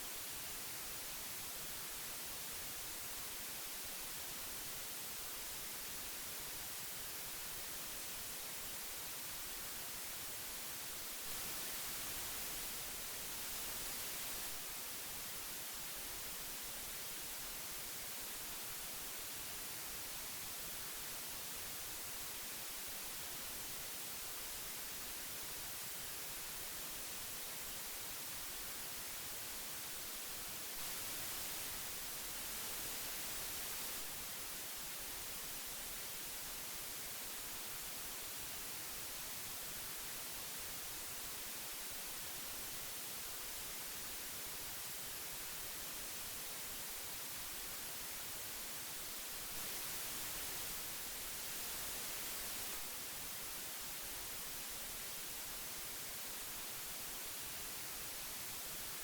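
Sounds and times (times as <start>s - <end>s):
tape hiss: 0.0s - 59.0s.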